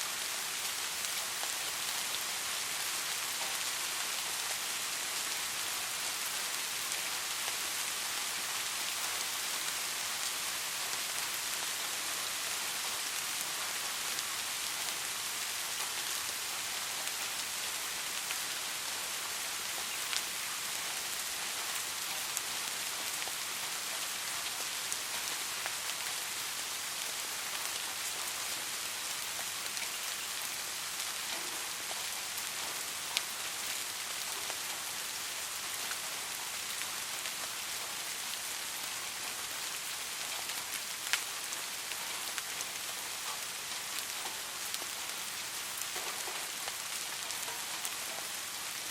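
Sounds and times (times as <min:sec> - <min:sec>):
soft rain falling: 0:00.0 - 0:48.9.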